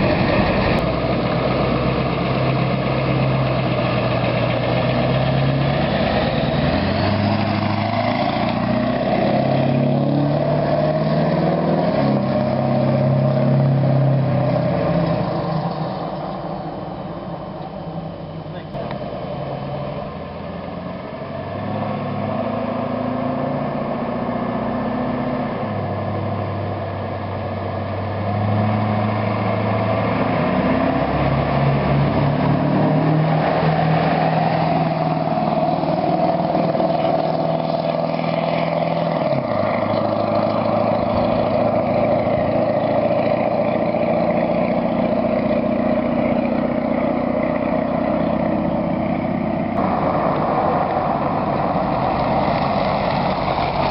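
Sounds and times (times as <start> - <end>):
diesel truck engine revving: 0.0 - 53.9.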